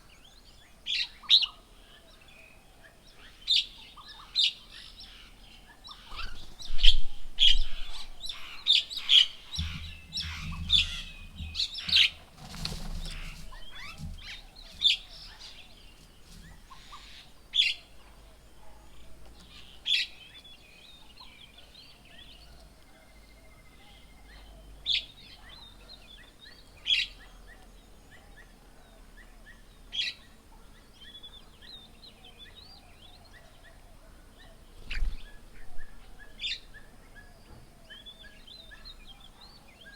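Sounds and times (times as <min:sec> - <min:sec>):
birds chirping and calling: 0:00.2 - 0:39.9.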